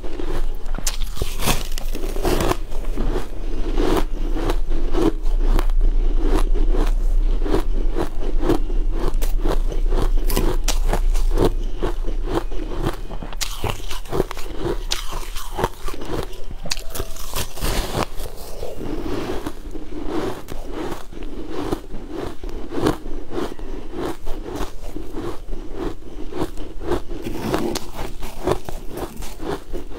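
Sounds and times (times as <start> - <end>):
ice being chewed: 0.0 - 29.9.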